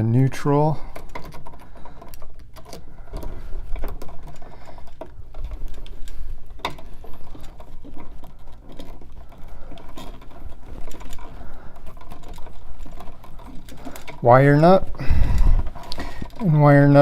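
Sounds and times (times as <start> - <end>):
copper wires clicking and scraping: 0.0 - 17.0.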